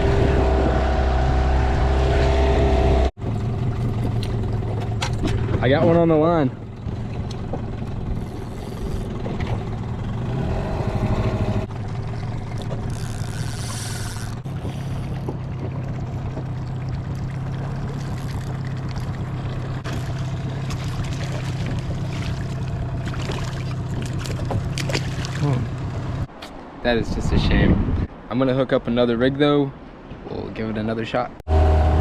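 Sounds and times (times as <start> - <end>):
boat engine running: 0.0 - 26.4, 31.5 - 32.0.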